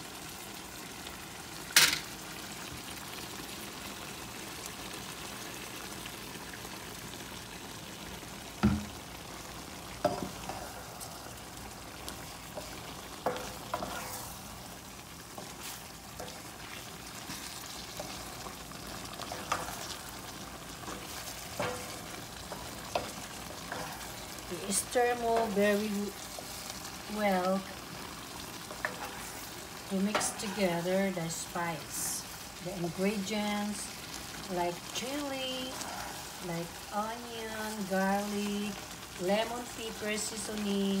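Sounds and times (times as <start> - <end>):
food sizzling in a frying pan: 0.0 - 41.0.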